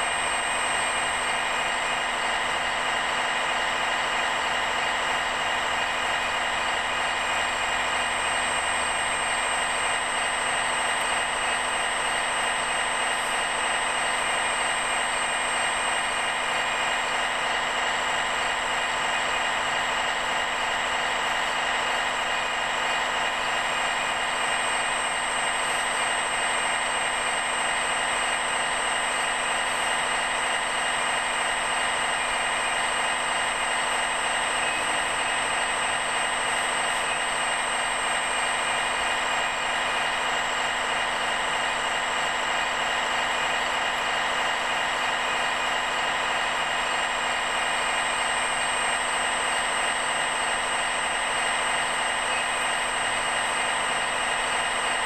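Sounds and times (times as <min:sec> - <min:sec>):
hydraulic pump whine: 0:00.0 - 0:55.0.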